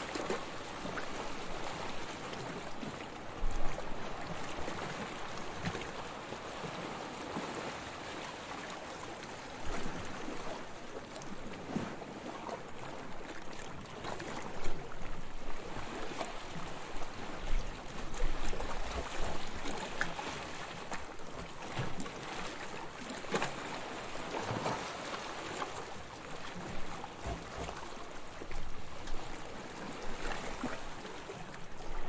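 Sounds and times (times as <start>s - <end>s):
sea water lapping: 0.0s - 32.0s.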